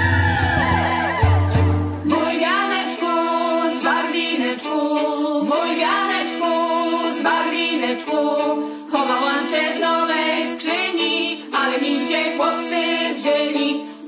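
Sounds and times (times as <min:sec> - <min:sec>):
women singing in harmony: 0:02.0 - 0:14.0.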